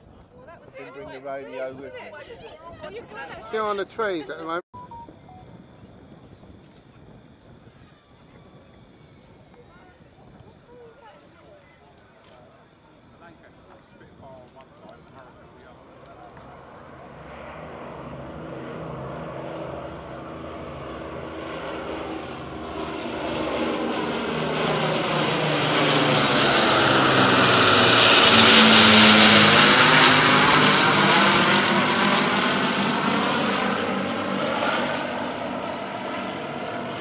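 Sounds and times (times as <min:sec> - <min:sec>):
piston aircraft engines droning: 0:04.9 - 0:37.0.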